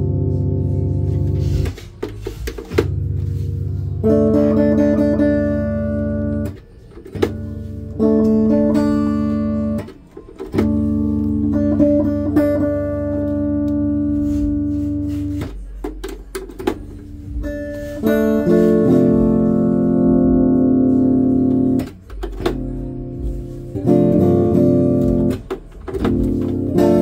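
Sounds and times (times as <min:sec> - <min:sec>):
guitar chords ringing: 0:00.0 - 0:01.8, 0:02.4 - 0:15.6, 0:16.6 - 0:27.0.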